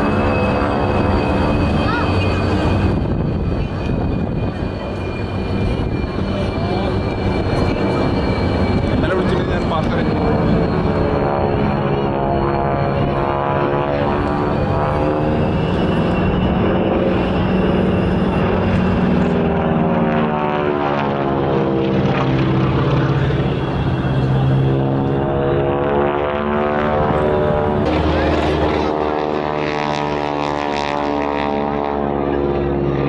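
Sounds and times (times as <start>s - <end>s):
biplane engine and propeller: 0.0s - 33.0s.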